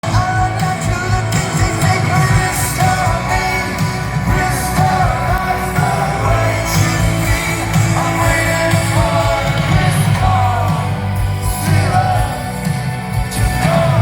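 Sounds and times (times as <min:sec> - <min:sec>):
rock band playing live: 0:00.0 - 0:14.0
singer singing: 0:00.0 - 0:14.0.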